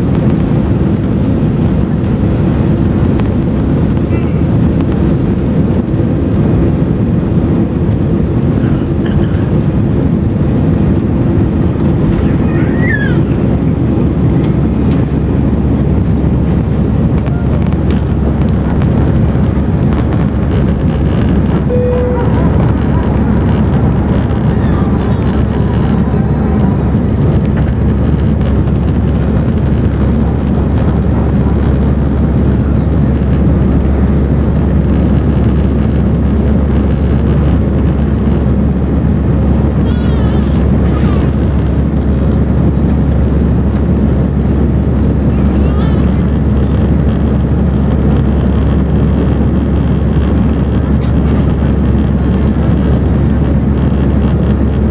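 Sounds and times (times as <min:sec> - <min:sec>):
jet engines and airflow rushing: 0:00.0 - 0:54.9.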